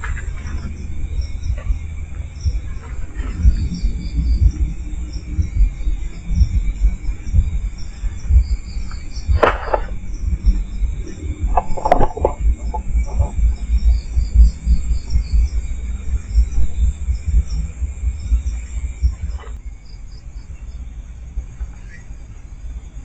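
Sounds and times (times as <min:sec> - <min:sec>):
crickets chirping: 0:00.0 - 0:23.0
low rumble on microphone: 0:00.0 - 0:23.0.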